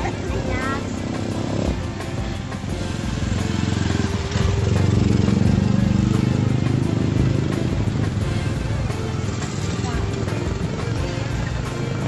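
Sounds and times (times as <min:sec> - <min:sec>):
motorcycle engine drone: 0:00.0 - 0:12.0.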